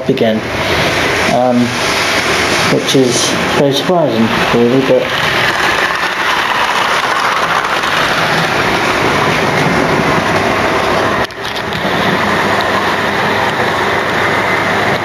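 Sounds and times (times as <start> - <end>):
model train running on track: 0.0 - 15.0.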